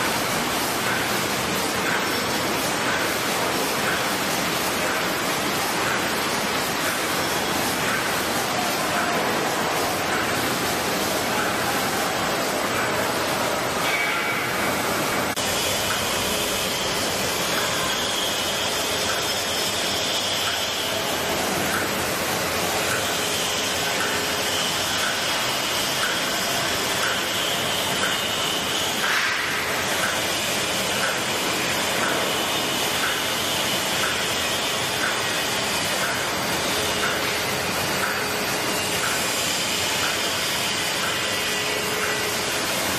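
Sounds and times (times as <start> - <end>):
machine ticking: 0.0 - 42.9
packing machine hiss and hum: 0.0 - 42.9.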